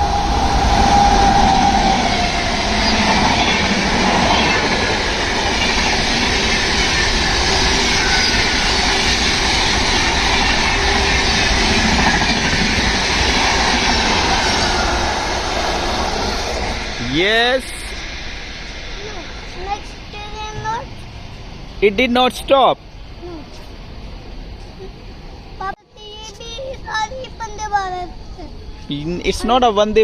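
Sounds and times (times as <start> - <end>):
train rushing past on rails: 0.0 - 25.8.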